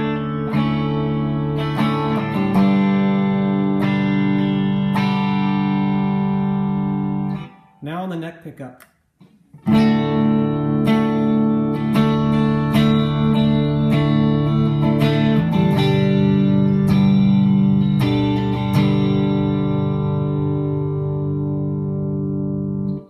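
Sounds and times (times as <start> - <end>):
clean electric guitar chords: 0.0 - 7.8, 9.6 - 23.0.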